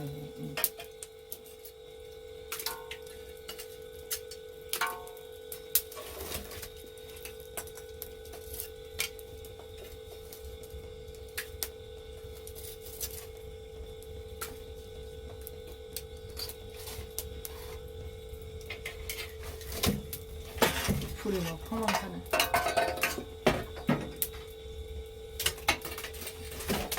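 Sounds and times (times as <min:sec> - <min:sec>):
charcoal fire crackling: 0:00.0 - 0:26.9
faint hum: 0:00.0 - 0:26.9.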